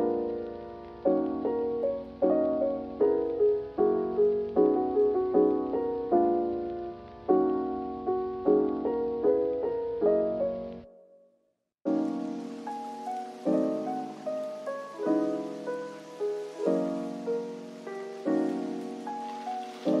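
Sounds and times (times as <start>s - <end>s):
soft piano music: 0.0s - 11.3s, 11.9s - 20.0s.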